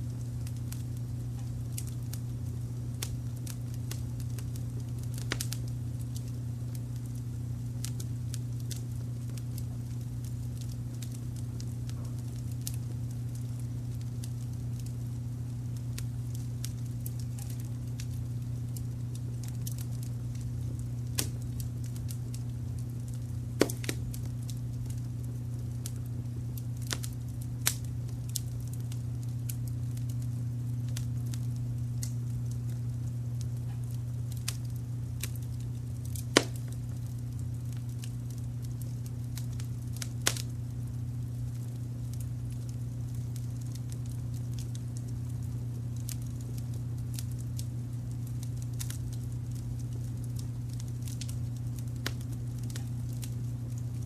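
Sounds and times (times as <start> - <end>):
low brown-noise rumble: 0.0 - 54.0
sharp pops of fire: 0.0 - 54.0
wood fire crackling: 0.0 - 54.0.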